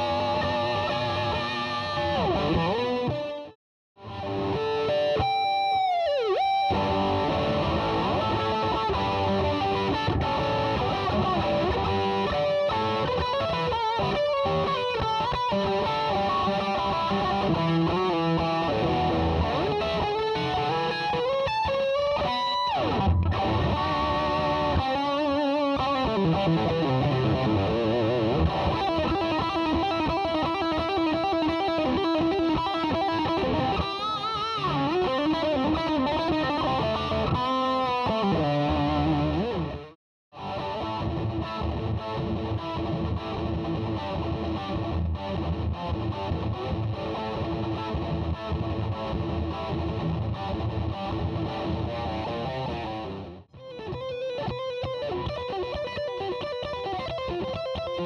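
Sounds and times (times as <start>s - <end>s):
distorted electric guitar lead: 0.0s - 58.0s.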